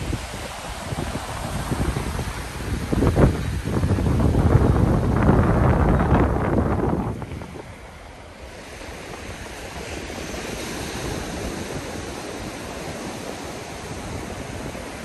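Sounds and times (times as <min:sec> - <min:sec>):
sea water washing over sand: 0:00.0 - 0:15.0
wind on microphone: 0:00.0 - 0:15.0.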